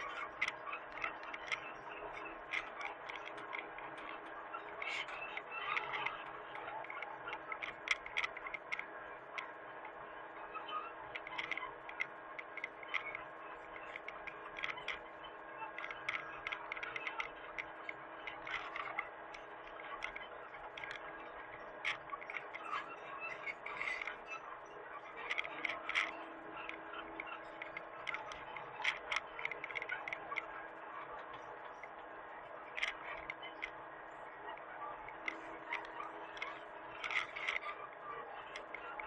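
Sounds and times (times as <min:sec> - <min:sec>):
irregular ticks and clicks: 0:00.0 - 0:39.0.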